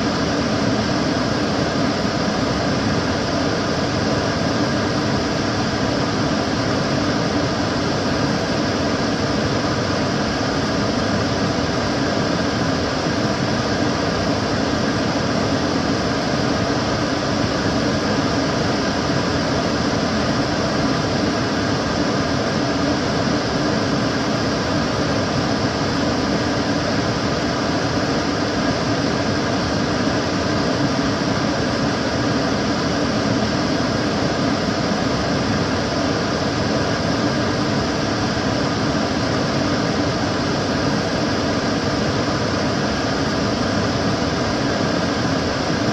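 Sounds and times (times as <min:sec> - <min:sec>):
extractor fan running: 0:00.0 - 0:45.9.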